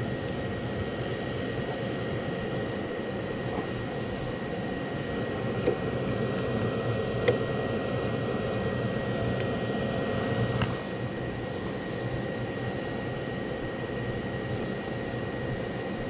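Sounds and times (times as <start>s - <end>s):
furnace air rush and motor: 0.0s - 16.0s
high whine: 0.0s - 16.0s.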